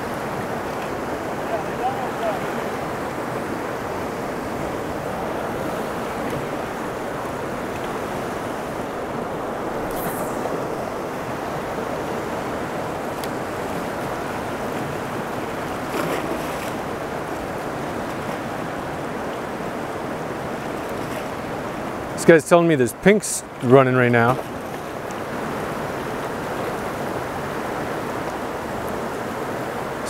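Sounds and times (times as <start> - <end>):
fast-flowing river rushing: 0.0 - 22.2, 24.5 - 30.0.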